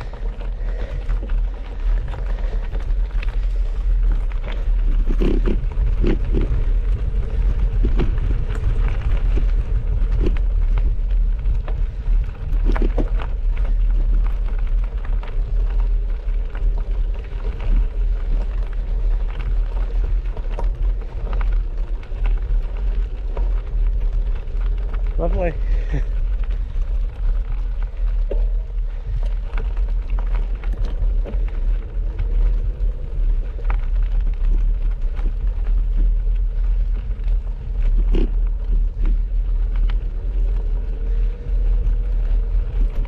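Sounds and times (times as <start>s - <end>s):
bicycle knocks and rattles: 0.0s - 43.0s
wind rumbling on microphone: 0.0s - 43.0s.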